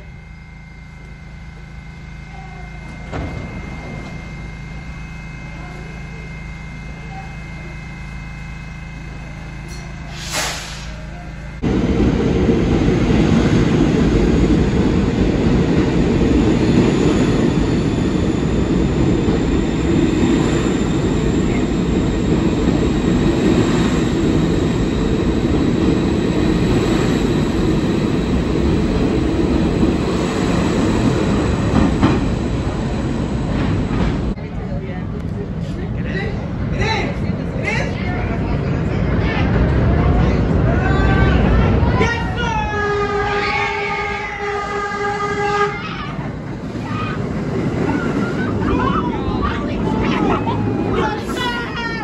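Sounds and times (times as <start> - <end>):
subway train humming: 0.0 - 52.0
train wheels rumbling on rail: 9.0 - 52.0.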